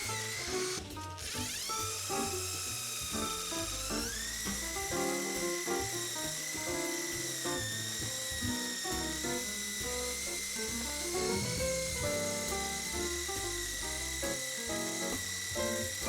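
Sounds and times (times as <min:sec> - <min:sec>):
electric drill whining: 0:00.0 - 0:16.0.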